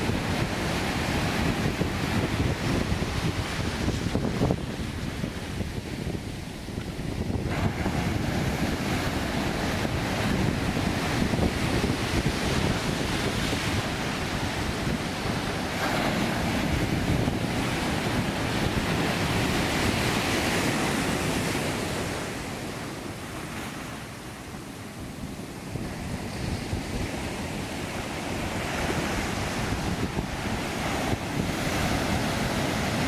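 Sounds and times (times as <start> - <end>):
heavy surf crashing on beach: 0.0 - 33.0
wind buffeting microphone: 0.0 - 33.0.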